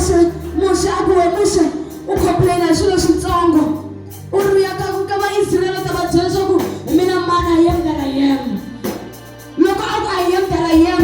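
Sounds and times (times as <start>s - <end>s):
low instrumental backing: 0.0s - 11.0s.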